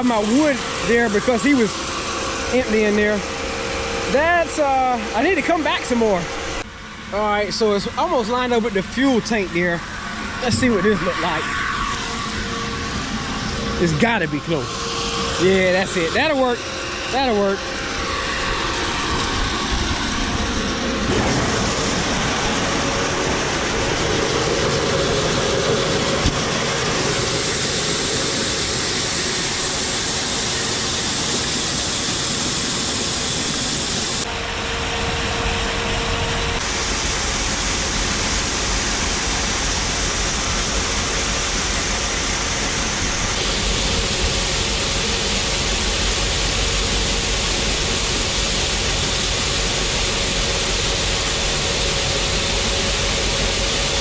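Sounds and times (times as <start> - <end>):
heavy farm machinery rushing: 0.0 - 54.0.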